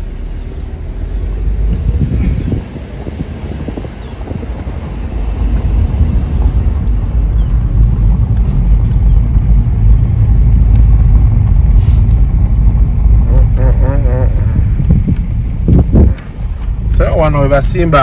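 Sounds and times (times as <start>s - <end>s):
motorboat engine rumble: 0.0s - 18.0s.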